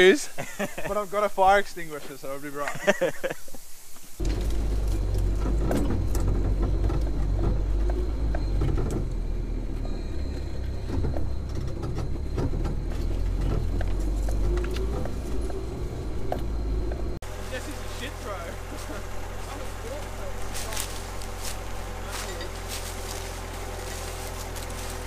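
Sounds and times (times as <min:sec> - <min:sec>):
low engine drone: 0:04.2 - 0:25.0.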